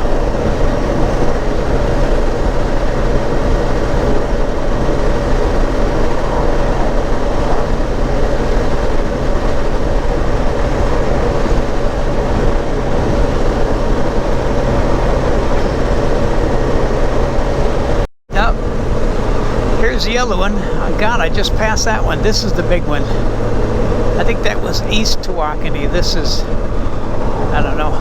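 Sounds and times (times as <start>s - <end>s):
motor trike engine cruising: 0.0s - 28.0s
wind and road noise: 0.0s - 28.0s.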